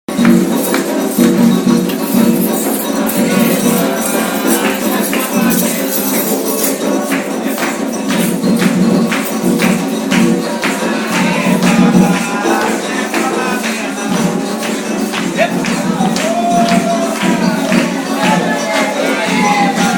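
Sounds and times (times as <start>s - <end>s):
ritual drums beating: 0.1s - 19.9s
voices singing: 0.4s - 19.9s.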